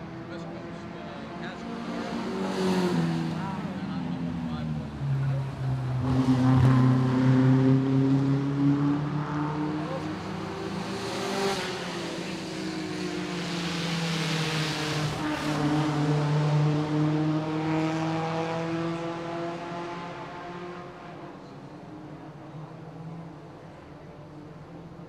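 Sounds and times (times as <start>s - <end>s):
sports car engines racing past: 0.0s - 25.0s.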